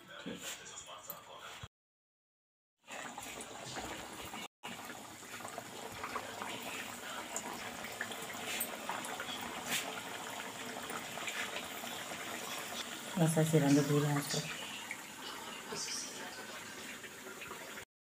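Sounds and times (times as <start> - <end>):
dough deep-frying in oil: 2.9 - 17.9.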